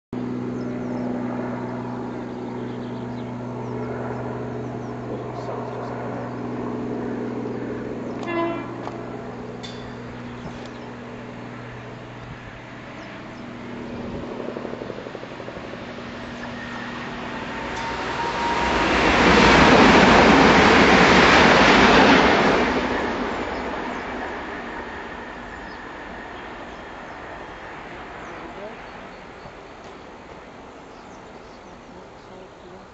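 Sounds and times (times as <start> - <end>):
train passing at speed: 0.2 - 32.9.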